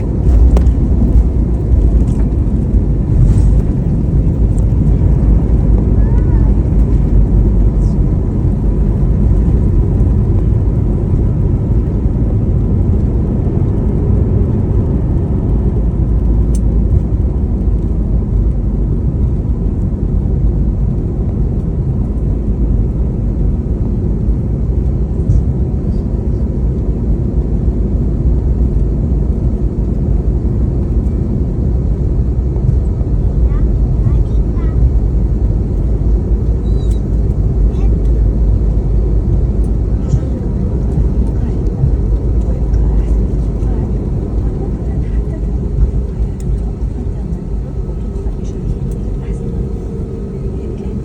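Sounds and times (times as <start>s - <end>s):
airplane cabin engine rumble: 0.0s - 51.0s.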